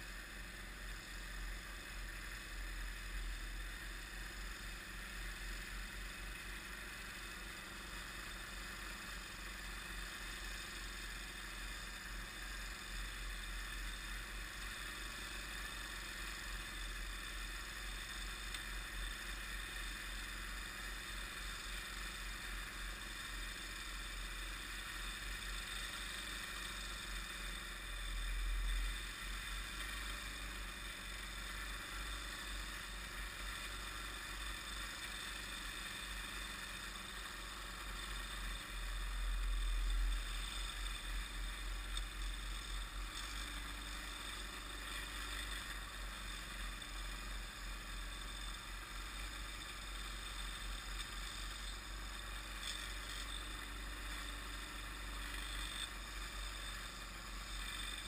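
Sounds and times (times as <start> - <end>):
distant snowblower engine running: 0.0 - 58.0.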